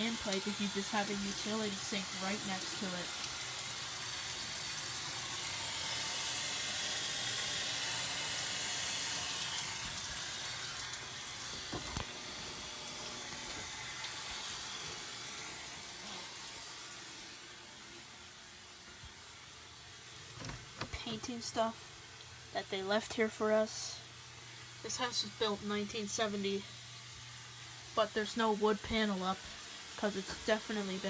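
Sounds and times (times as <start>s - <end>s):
water running: 0.0s - 31.0s.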